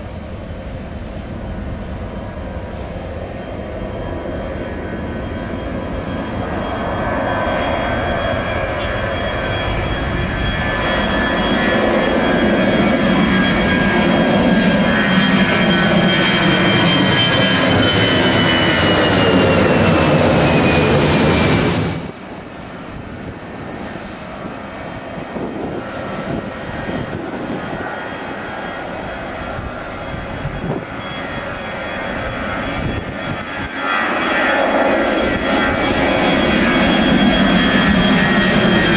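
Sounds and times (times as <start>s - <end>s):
jet engines roaring: 0.0s - 38.9s.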